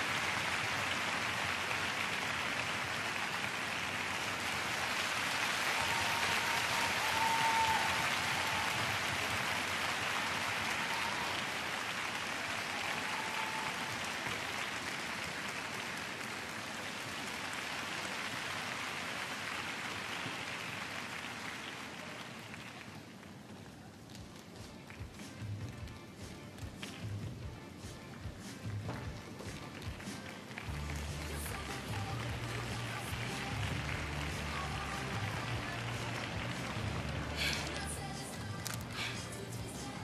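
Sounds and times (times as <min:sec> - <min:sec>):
crowd applauding: 0:00.0 - 0:25.1, 0:29.5 - 0:40.0.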